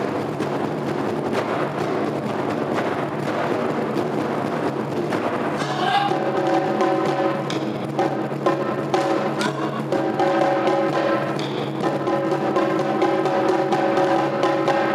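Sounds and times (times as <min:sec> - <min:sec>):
taiko drums in steady rhythm: 0:00.0 - 0:14.9.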